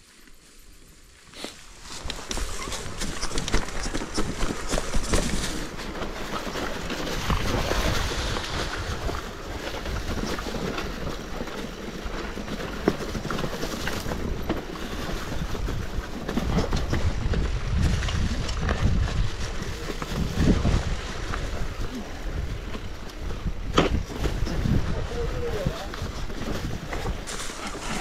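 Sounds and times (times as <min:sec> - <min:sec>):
bike rattles and knocks: 0:01.3 - 0:28.0
tyres rumbling over dirt: 0:01.4 - 0:28.0
wind on microphone: 0:02.0 - 0:11.2, 0:13.9 - 0:28.0.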